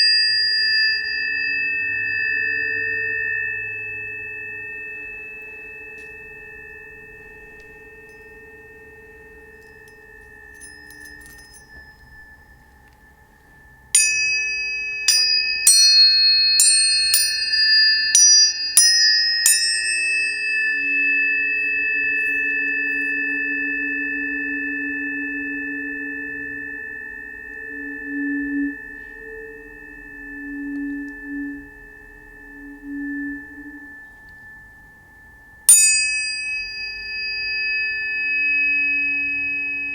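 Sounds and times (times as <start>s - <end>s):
low pulsing tones: 0.0s - 39.9s
tuning fork strikes: 0.0s - 39.9s
tuning forks ringing: 0.0s - 39.9s.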